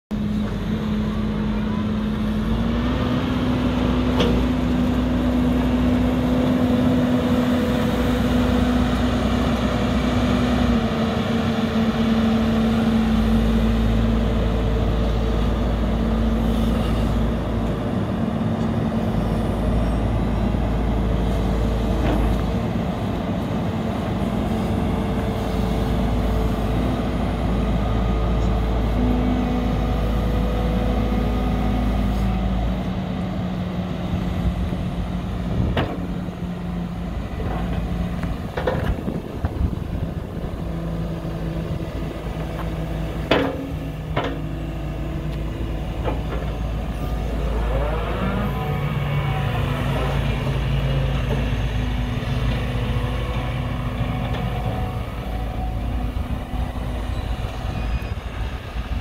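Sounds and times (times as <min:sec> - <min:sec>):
excavator diesel engine running: 0:00.1 - 0:59.0.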